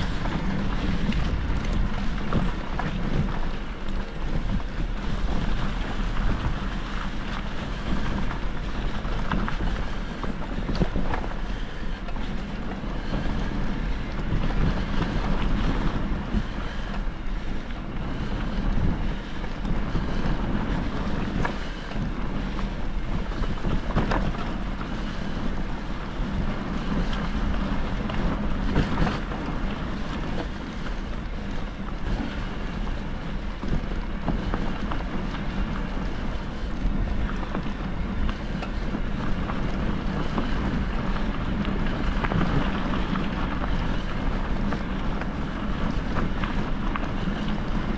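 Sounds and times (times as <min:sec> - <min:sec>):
low rumble: 0:00.0 - 0:47.9
wind buffeting microphone: 0:00.0 - 0:47.9.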